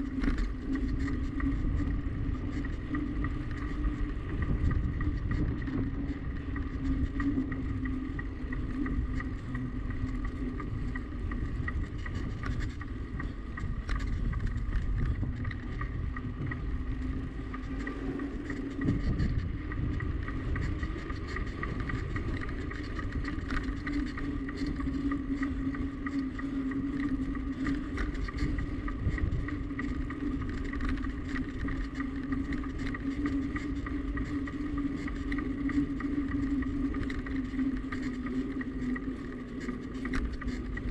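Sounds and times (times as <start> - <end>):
bicycle riding hum: 0.0 - 40.9
faint ticks: 0.0 - 40.9
wind rumbling on microphone: 0.0 - 40.9.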